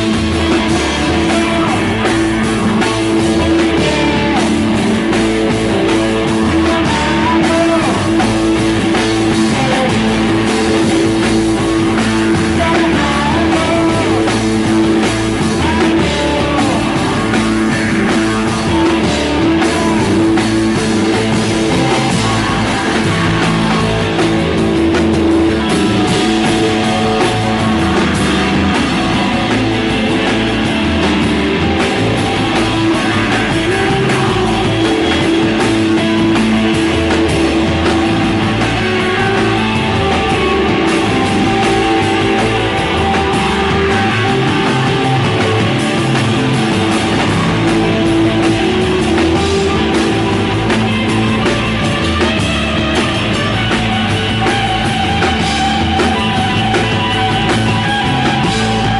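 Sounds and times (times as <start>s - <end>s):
drums: 0.0s - 58.9s
electric guitar: 0.0s - 58.9s.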